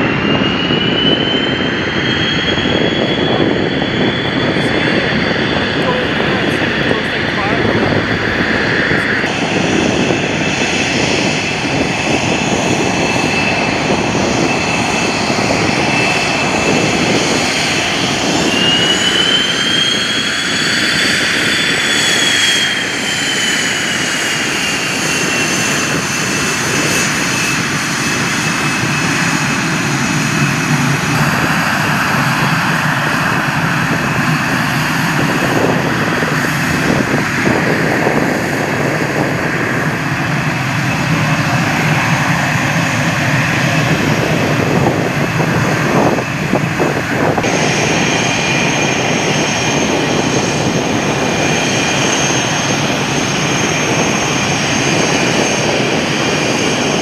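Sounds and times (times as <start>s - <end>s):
jet engine whine: 0.0s - 57.0s
jet exhaust rush: 0.0s - 57.0s.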